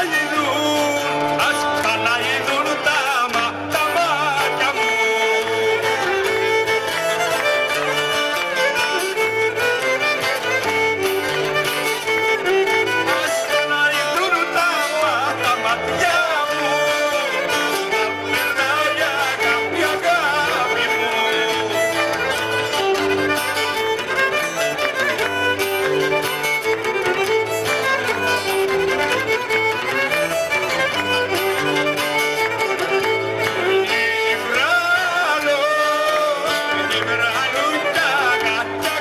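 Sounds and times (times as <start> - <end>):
strummed guitar: 0.0 - 39.0
violin melody: 0.0 - 39.0.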